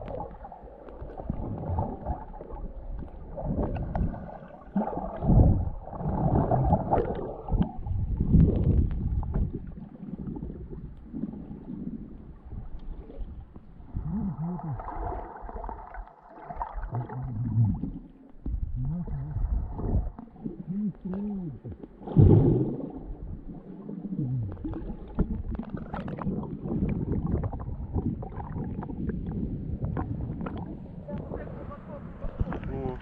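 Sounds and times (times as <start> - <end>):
muffled water sloshing and gurgling: 0.0 - 33.0.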